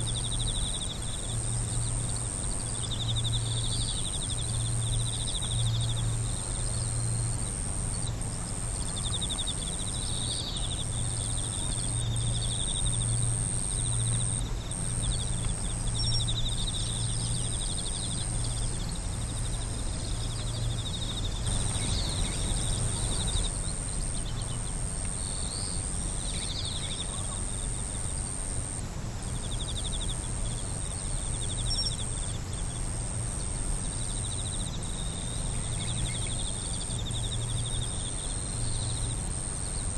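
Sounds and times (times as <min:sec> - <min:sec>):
insect high-pitched trill: 0:00.0 - 0:39.9
insects pulsing chirps: 0:00.0 - 0:39.9
low steady hum: 0:00.0 - 0:39.9.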